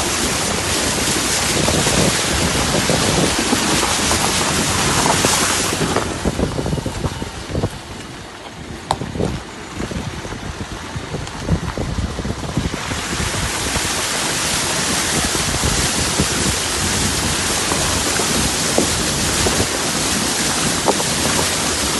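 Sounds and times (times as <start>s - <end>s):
water rushing: 0.0s - 21.9s
wind buffeting microphone: 0.0s - 21.9s.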